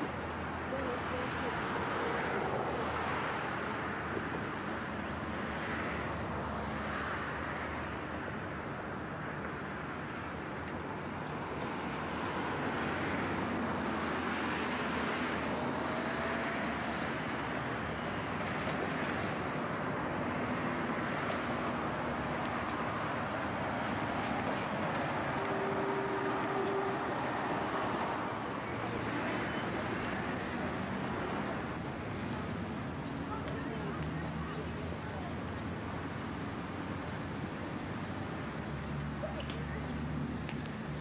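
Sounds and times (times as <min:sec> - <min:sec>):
diesel railcar engine drone: 0:00.0 - 0:41.0.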